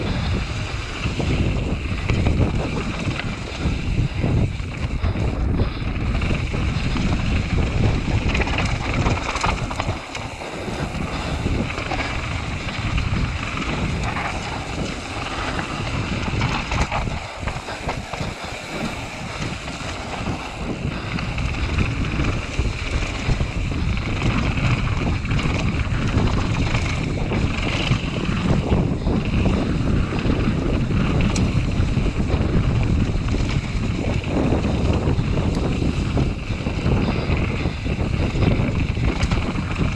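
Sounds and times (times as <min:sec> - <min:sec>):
bike tyres clattering on dirt: 0:00.0 - 0:39.9
wind rushing over microphone: 0:00.0 - 0:39.9.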